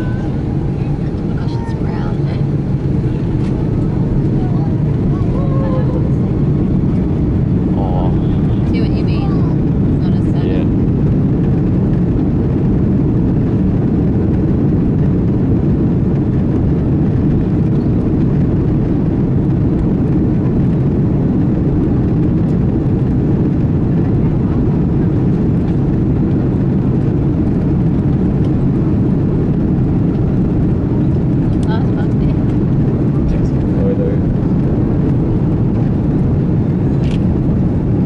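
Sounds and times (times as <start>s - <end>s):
jet engine rumble in cabin: 0.0s - 38.0s.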